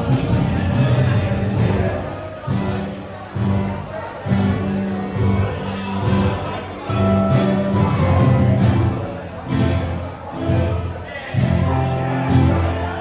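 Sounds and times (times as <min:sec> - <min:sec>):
sustained bass notes: 0:00.0 - 0:13.0.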